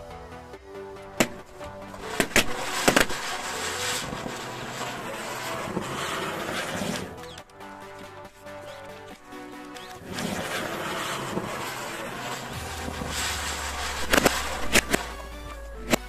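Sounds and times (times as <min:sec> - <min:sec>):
balloons popping: 0:01.2 - 0:16.0
spinning firework hissing: 0:01.2 - 0:16.0.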